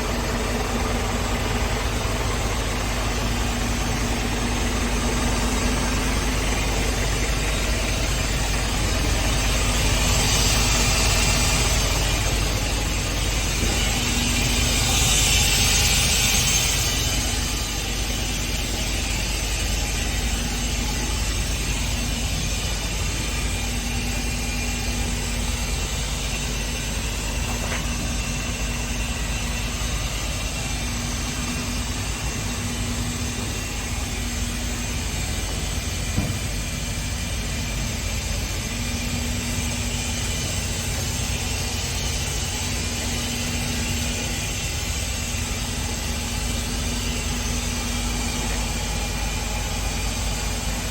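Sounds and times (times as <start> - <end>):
diesel truck engine idling: 0.0 - 50.9.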